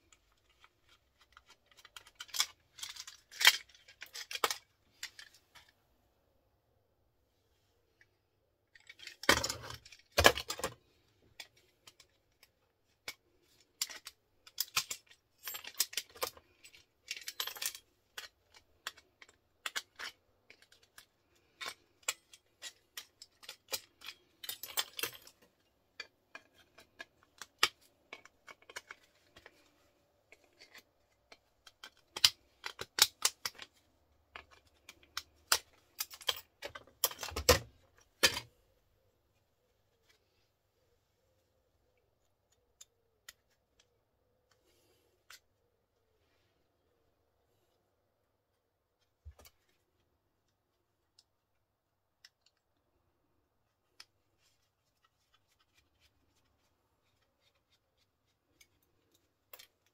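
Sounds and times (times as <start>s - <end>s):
small parts clicking and clinking: 0.0s - 5.8s, 7.9s - 38.6s, 41.9s - 45.7s, 48.9s - 59.9s.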